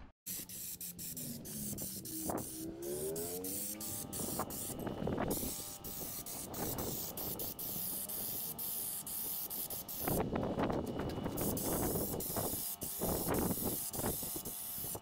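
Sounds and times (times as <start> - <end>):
spray gun hissing: 0.3 - 15.0.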